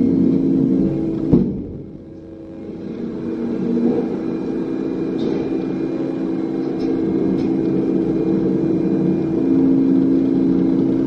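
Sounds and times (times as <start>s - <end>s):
hydraulic baler motor and pump hum: 0.0s - 11.0s.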